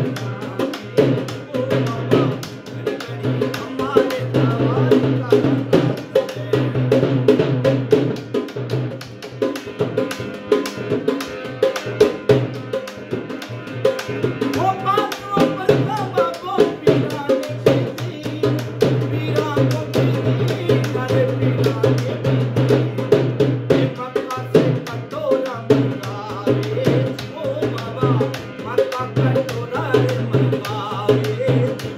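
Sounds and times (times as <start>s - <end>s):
man singing: 0.0s - 8.6s, 12.8s - 31.9s
dholak fast rhythm: 0.0s - 31.9s.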